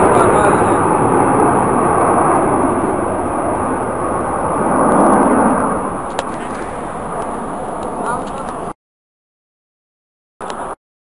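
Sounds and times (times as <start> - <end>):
jet aircraft roaring overhead: 0.0 - 8.8, 10.4 - 10.8.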